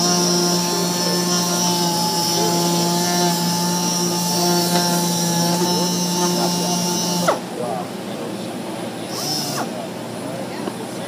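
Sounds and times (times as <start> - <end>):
air sander whining: 0.0 - 11.0.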